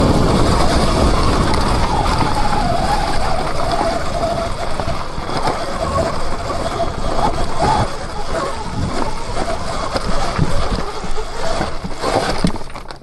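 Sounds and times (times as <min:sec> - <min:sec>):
wind buffeting microphone: 0:00.0 - 0:12.6
electric motorbike motor whine: 0:00.0 - 0:12.9.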